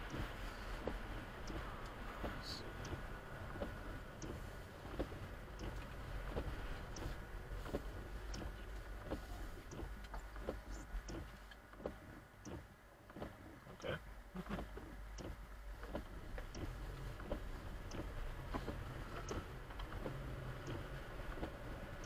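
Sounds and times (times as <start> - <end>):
engine and road rumble: 0.0 - 22.0
light clicks and knocks: 0.0 - 22.0.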